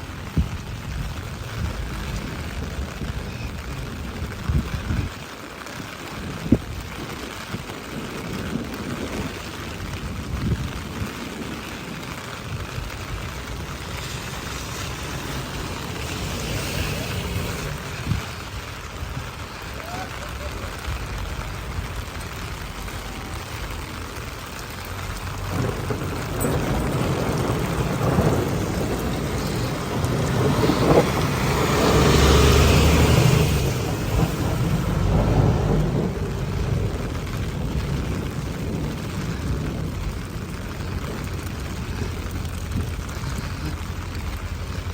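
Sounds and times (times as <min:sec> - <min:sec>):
rain hissing: 0:00.0 - 0:44.9
vehicle passing on wet road: 0:00.0 - 0:44.9
wind rumble on microphone: 0:00.0 - 0:44.9.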